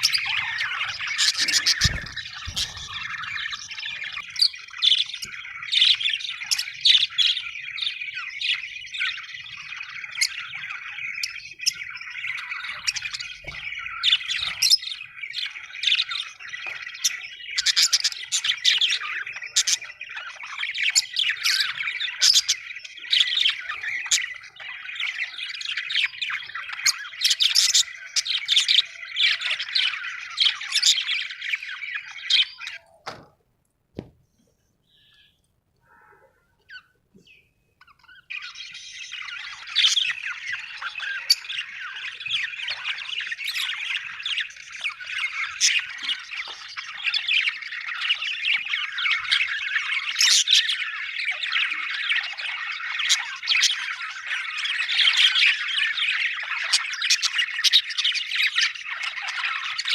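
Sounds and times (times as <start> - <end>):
budgerigars chattering: 0.0 - 32.8, 36.7 - 59.9.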